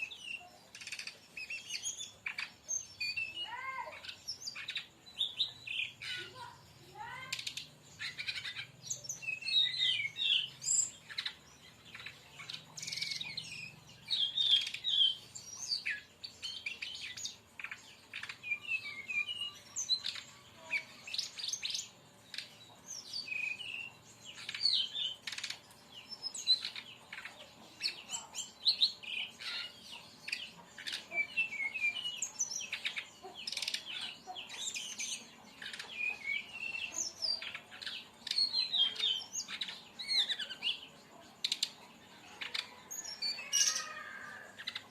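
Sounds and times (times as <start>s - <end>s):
bird singing chirps and trills: 0.0s - 44.9s.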